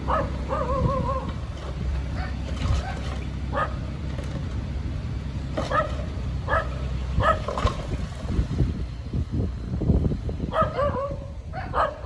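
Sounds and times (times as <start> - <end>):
bulldozer diesel engine rumble: 0.0 - 12.0.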